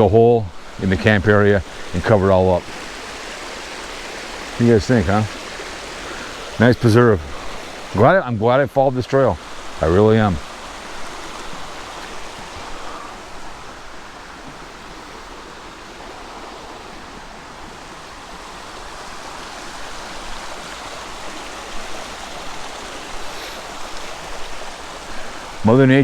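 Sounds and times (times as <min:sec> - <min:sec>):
creek water running: 0:00.0 - 0:26.0.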